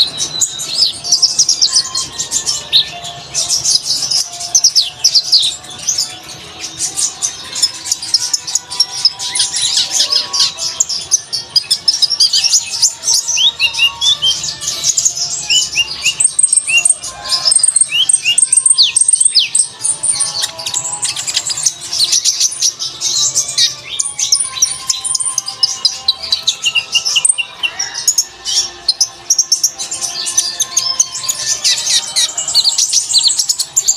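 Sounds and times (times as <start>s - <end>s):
bird twittering song: 0.0s - 33.9s.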